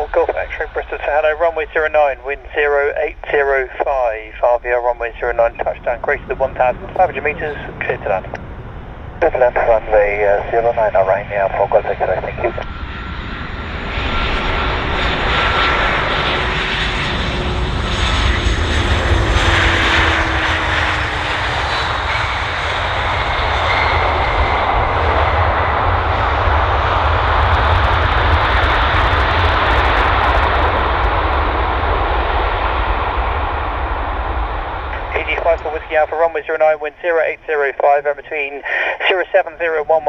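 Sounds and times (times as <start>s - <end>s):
airliner engines rushing: 0.0s - 40.0s
engine whine: 0.0s - 40.0s.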